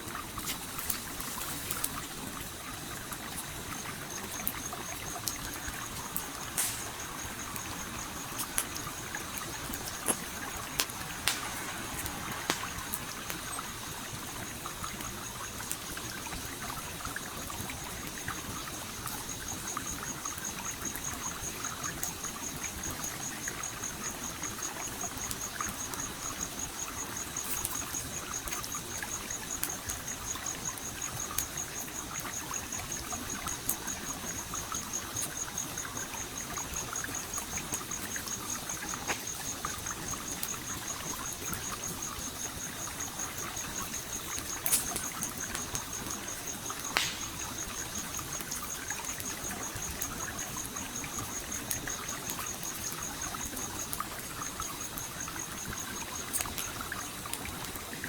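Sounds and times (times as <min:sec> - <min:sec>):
campfire crackling and popping: 0:00.0 - 0:58.0
high insect trill: 0:00.0 - 0:58.0
stream trickling: 0:00.0 - 0:58.0.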